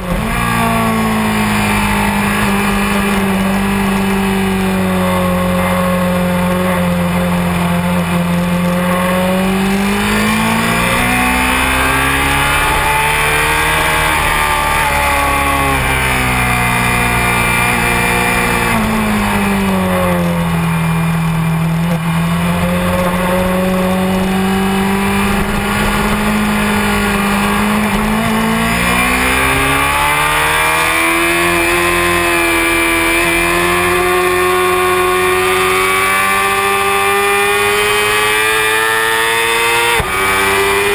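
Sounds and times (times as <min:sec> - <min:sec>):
motorcycle engine running hard: 0:00.0 - 0:40.9.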